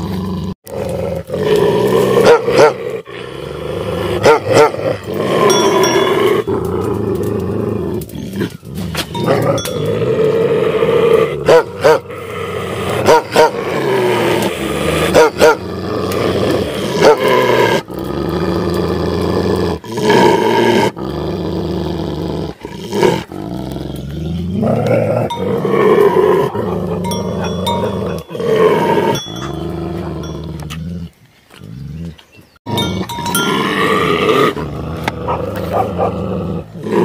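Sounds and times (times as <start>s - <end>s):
dogs growling: 0.0s - 37.0s.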